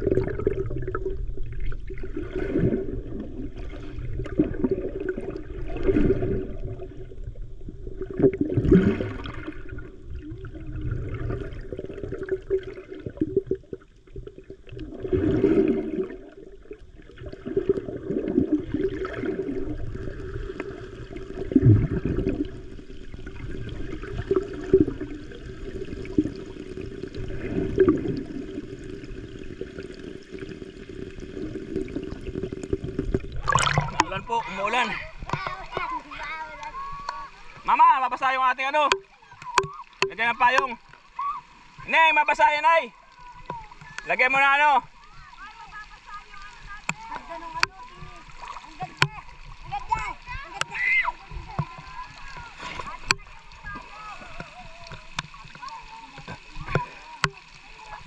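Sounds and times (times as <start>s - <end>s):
muffled underwater water rushing: 0.0s - 58.0s.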